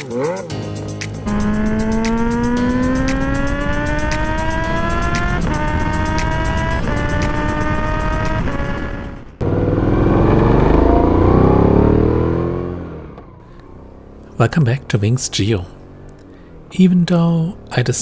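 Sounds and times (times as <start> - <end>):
motorcycle engine accelerating: 1.2 - 18.0.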